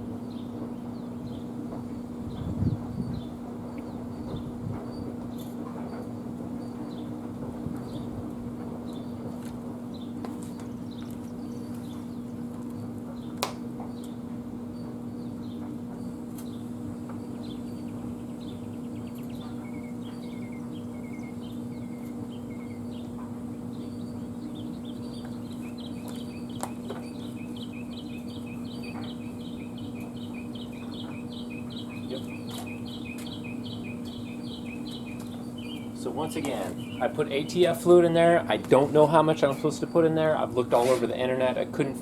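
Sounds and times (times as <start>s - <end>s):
steady low hum: 0.0s - 42.0s
small birds chirping: 0.2s - 42.0s.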